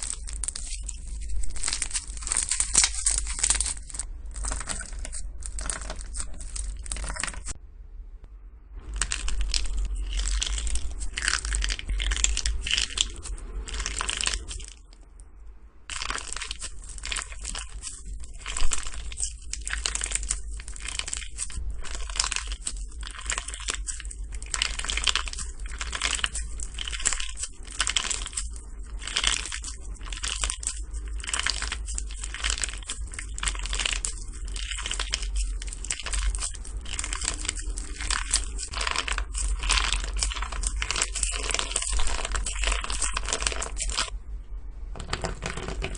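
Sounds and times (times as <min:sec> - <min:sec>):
slime crackling as hands squeeze: 0:00.0 - 0:07.6, 0:08.8 - 0:15.0, 0:15.9 - 0:44.1.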